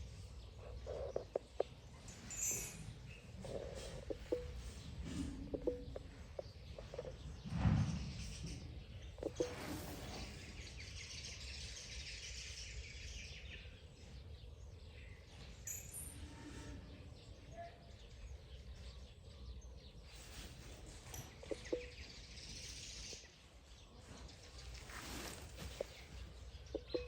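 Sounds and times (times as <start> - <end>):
faint bird chirping: 0.0 - 27.0.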